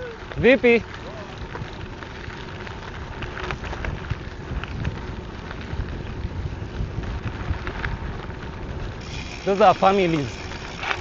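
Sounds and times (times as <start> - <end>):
bike ticks and rattles: 0.0 - 11.0
tyres rolling on gravel: 0.0 - 11.0
wind buffeting microphone: 0.0 - 11.0.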